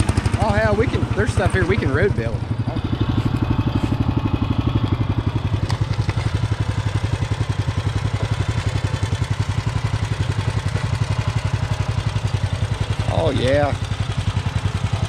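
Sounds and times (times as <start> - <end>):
tractor engine chugging: 0.0 - 15.0.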